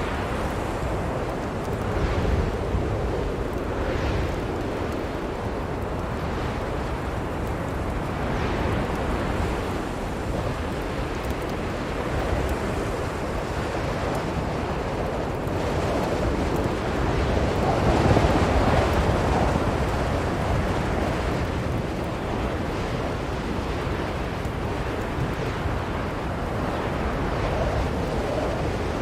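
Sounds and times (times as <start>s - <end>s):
blizzard wind blowing: 0.0s - 29.0s.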